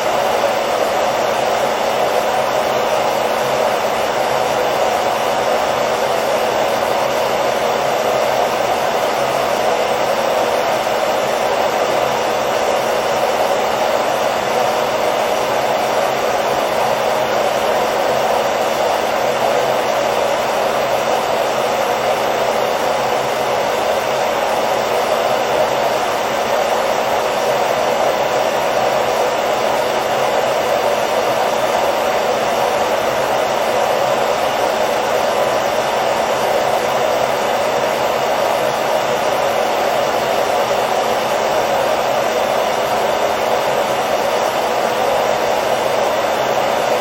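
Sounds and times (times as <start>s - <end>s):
hair dryer blowing air: 0.0s - 47.0s.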